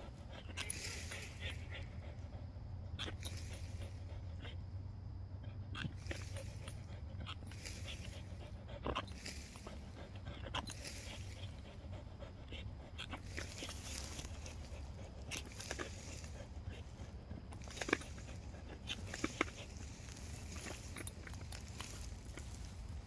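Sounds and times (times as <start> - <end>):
dog panting: 0.0 - 23.0
steady low hum: 0.0 - 23.0.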